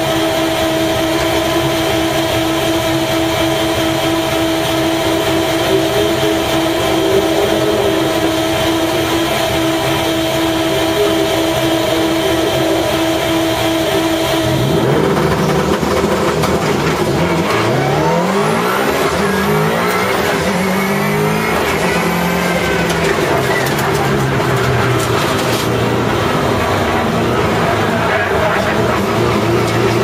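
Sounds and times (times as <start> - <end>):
car engine accelerating through gears: 0.0 - 30.0.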